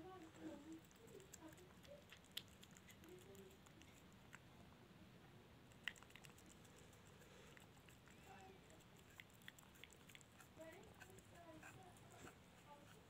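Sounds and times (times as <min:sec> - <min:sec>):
cat chewing: 0:00.0 - 0:04.6, 0:05.6 - 0:13.0.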